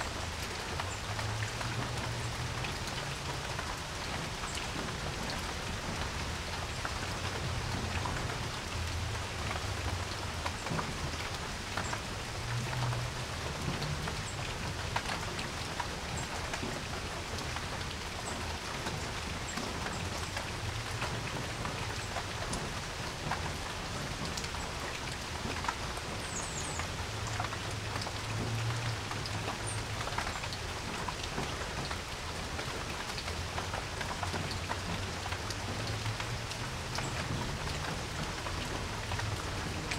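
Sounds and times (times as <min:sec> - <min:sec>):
rain falling on a porch: 0:00.0 - 0:39.9.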